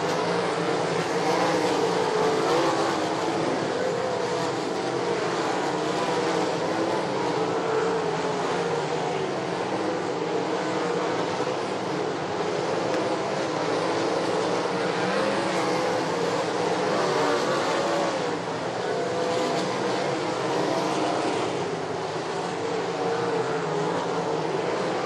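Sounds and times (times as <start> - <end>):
race car engines running hard: 0.0 - 25.0.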